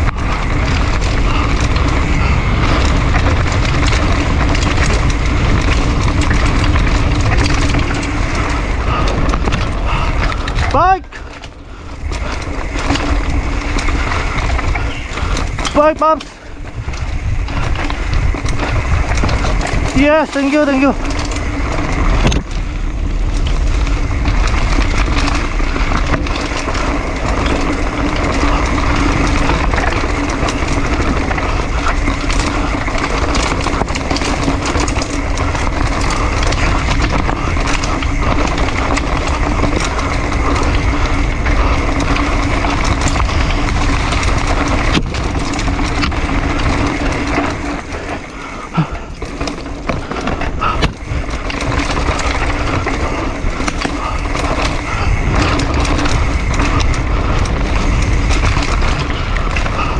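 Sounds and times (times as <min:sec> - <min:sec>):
bike knocking and rattling: 0:00.0 - 0:59.9
bike tyres rumbling on dirt: 0:00.0 - 0:59.9.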